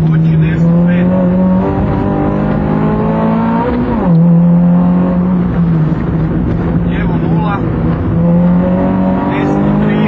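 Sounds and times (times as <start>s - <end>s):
car engine revving and shifting: 0.0s - 10.0s.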